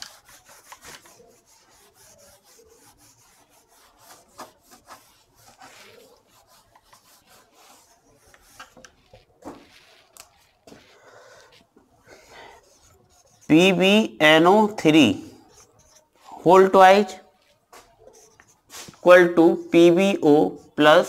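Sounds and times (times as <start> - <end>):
eraser rubbing on whiteboard: 0.0 - 14.1, 15.4 - 16.3, 17.3 - 19.2.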